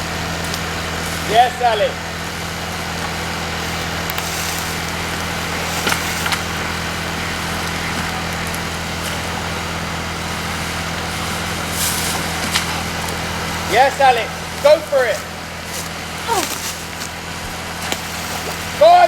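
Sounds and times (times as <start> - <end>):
motor running: 0.0 - 19.0.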